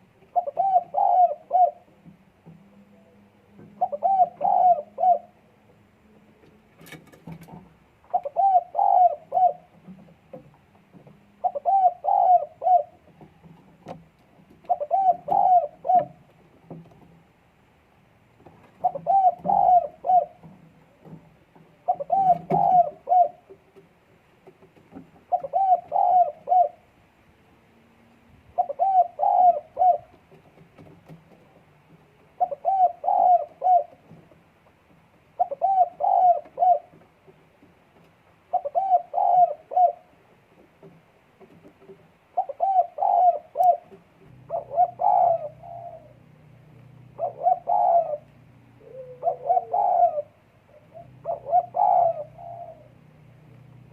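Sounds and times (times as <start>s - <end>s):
dove cooing: 0.0s - 10.5s, 11.1s - 16.8s, 18.6s - 23.8s, 24.9s - 26.9s, 28.6s - 30.5s, 31.9s - 34.4s, 35.3s - 37.1s, 38.4s - 40.3s, 42.2s - 53.9s.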